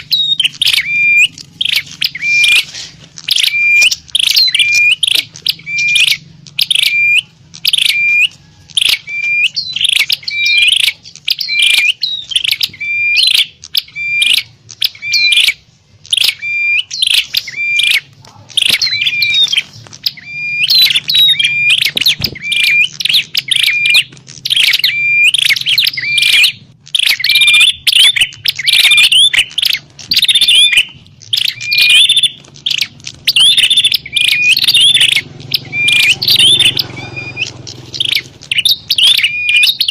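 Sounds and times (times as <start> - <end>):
songbirds sharp chirping: 0.0 - 39.9.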